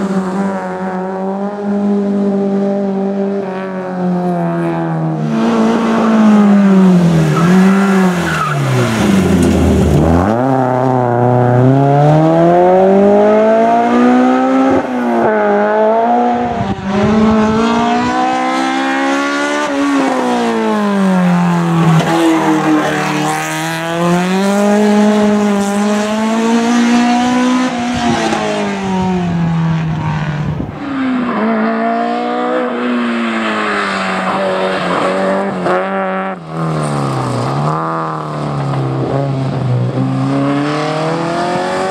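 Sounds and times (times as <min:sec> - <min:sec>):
car engine revving at full throttle: 0:00.0 - 0:41.9.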